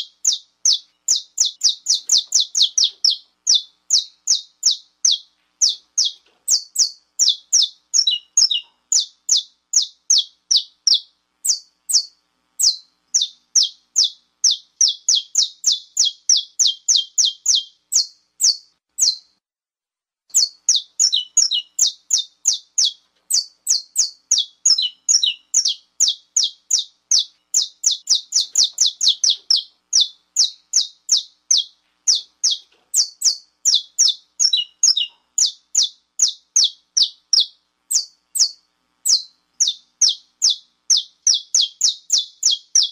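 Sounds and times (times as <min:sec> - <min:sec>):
finch giving sharp chip calls: 0:00.0 - 0:19.2, 0:20.3 - 0:42.9.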